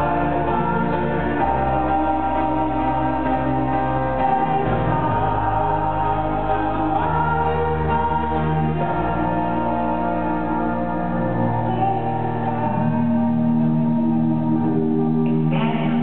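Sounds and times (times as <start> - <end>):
male lead voice singing: 0.0 - 13.4
male vocal group harmonizing: 0.0 - 16.0.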